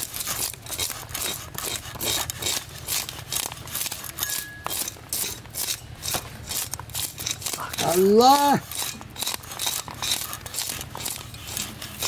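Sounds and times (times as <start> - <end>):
knife rasping fish scales: 0.0 - 12.0.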